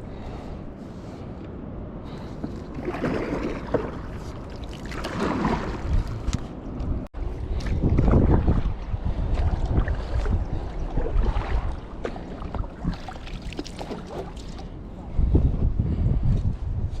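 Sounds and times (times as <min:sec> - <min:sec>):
water noise: 0:00.0 - 0:15.3
wind rumbling on microphone: 0:00.0 - 0:17.0.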